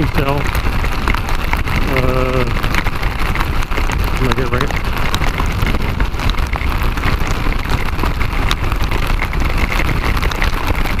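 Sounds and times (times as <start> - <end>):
raindrops ticking on microphone: 0.0 - 11.0
wind rumble on microphone: 0.0 - 11.0.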